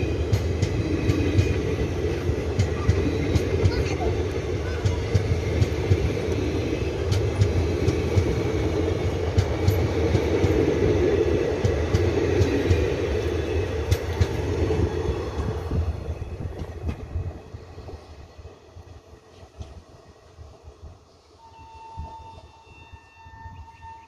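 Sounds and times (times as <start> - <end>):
train wheels rumbling and clicking: 0.0 - 20.6.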